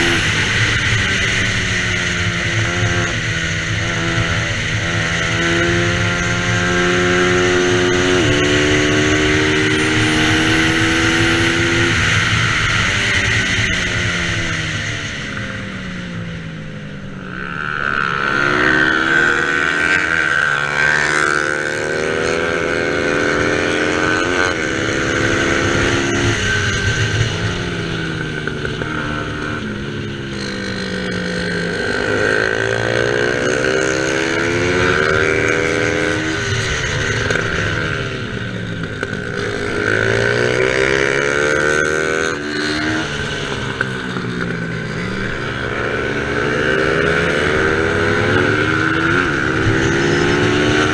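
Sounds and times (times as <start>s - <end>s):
racing motorcycle engines revving: 0.0s - 50.9s.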